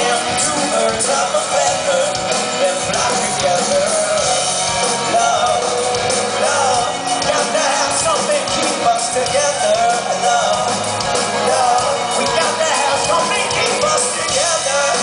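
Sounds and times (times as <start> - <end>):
person singing: 0.0 - 15.0
rock band playing: 0.0 - 15.0.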